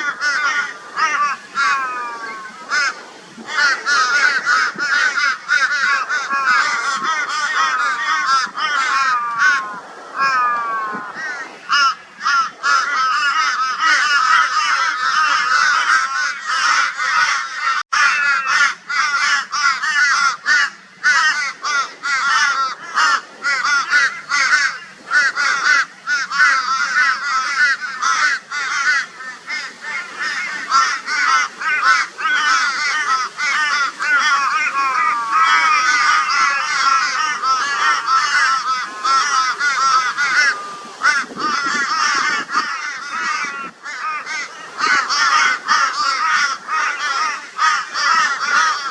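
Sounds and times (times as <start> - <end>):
crows cawing: 0.0 - 48.9.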